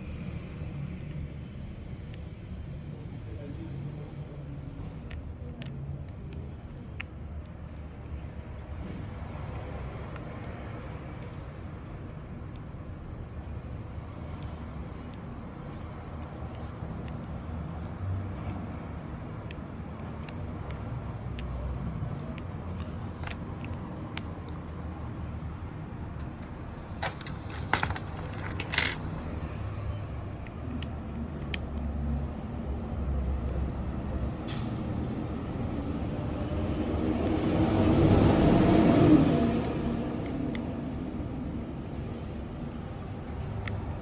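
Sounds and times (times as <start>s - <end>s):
low traffic rumble: 0.0s - 44.0s.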